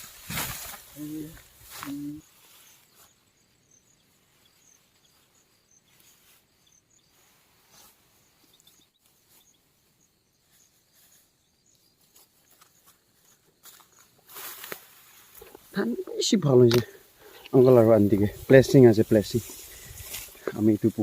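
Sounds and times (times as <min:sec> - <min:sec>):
faint high insect chirps: 0:00.0 - 0:21.0.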